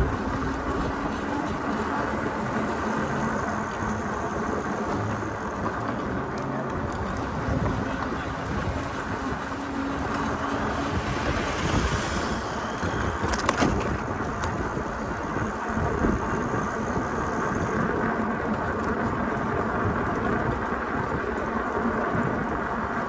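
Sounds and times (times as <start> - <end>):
city traffic: 0.0 - 23.0.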